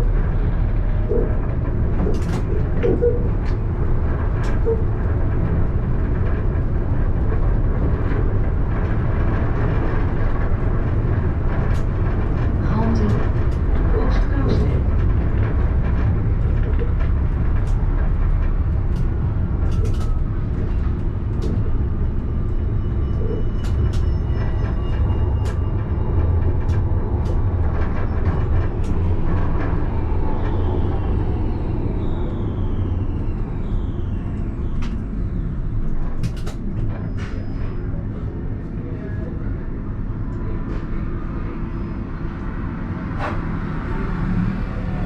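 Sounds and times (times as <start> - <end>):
tram rumbling: 0.0 - 45.0.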